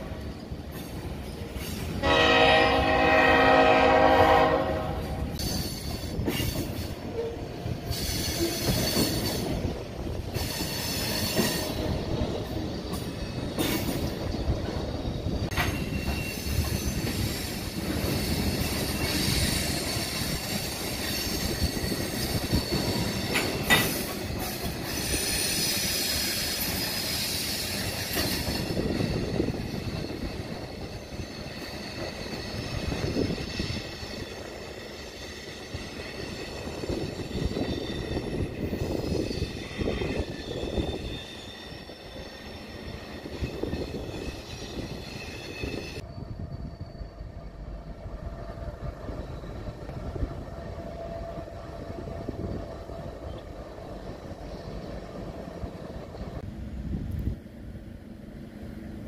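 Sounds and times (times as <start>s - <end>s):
train wheels squealing: 0.0s - 4.2s, 5.2s - 56.4s
train rumble and clatter: 0.0s - 59.0s.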